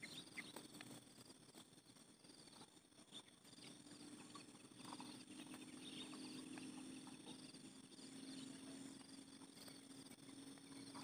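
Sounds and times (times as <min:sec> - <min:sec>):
insects trilling: 0:00.0 - 0:11.0
low steady hum: 0:00.0 - 0:11.0.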